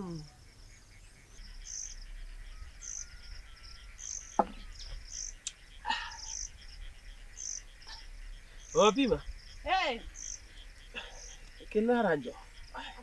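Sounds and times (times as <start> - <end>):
insects chirping: 0.0 - 13.0
steady high hiss: 0.0 - 13.0.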